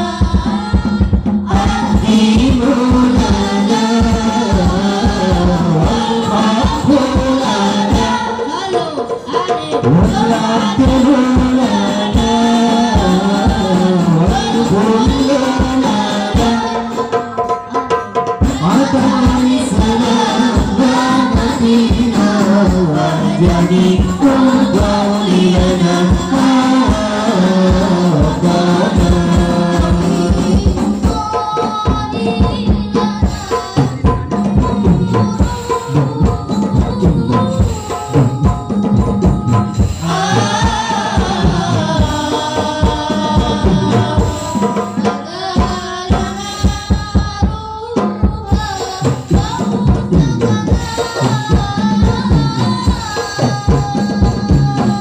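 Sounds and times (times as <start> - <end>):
hand-played frame drums: 0.0 - 55.0
voices singing together: 0.0 - 55.0.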